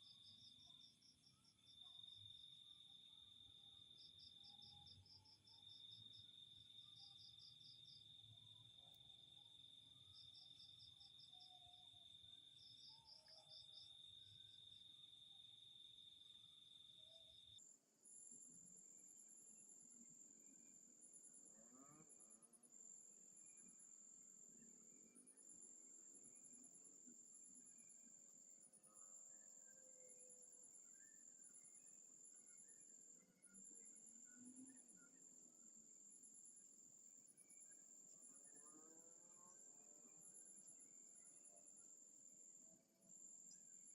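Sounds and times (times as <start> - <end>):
insect chirps: 0.0 - 43.9.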